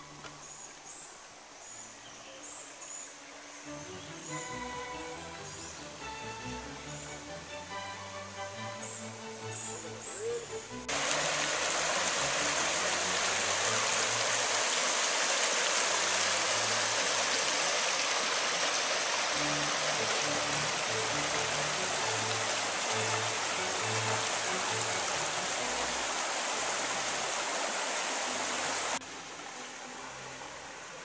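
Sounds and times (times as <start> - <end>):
creek water rushing over rocks: 0.0 - 31.0
soft background music: 1.9 - 15.0, 19.0 - 31.0.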